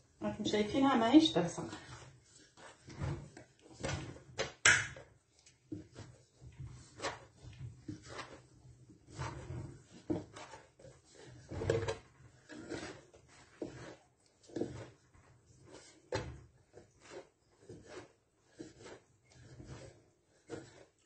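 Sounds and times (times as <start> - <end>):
dough kneaded in wooden bowl: 0.0 - 21.0.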